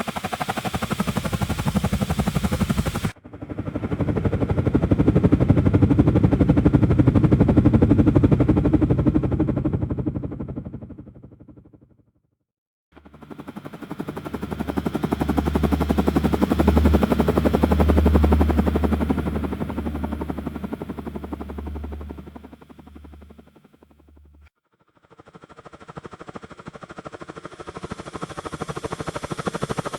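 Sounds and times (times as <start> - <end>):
helicopter rotor chop: 0.0 - 11.8, 13.0 - 29.9.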